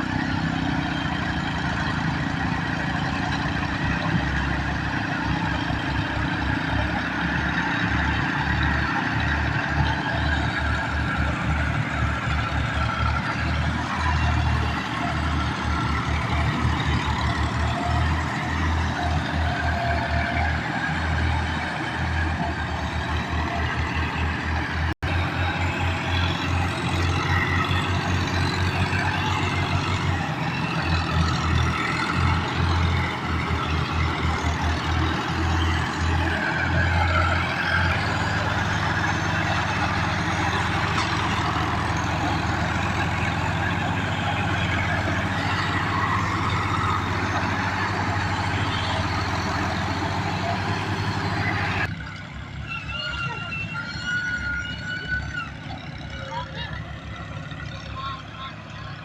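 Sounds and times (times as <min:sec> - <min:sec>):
road and traffic noise: 0:00.0 - 0:59.0
tractor diesel engine running: 0:00.0 - 0:59.0.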